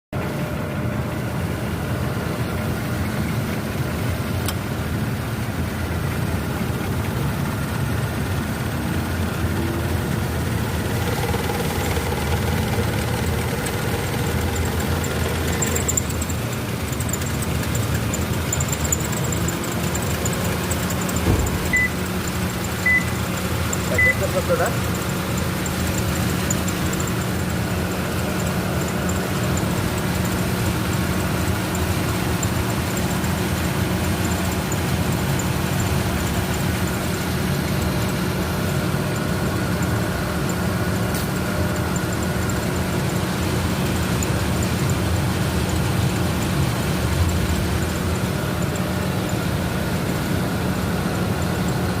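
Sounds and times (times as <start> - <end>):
car engine idling: 0.2 - 52.0
drive belt whine: 0.2 - 52.0.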